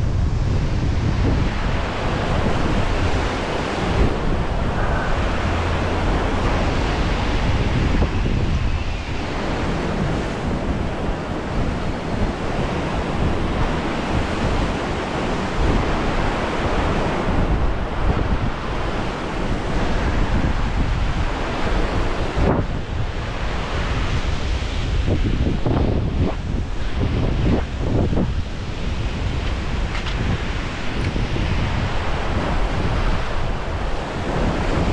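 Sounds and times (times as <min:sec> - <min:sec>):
ocean surf washing through rocks: 0:00.0 - 0:34.9
wind buffeting microphone: 0:00.0 - 0:34.9.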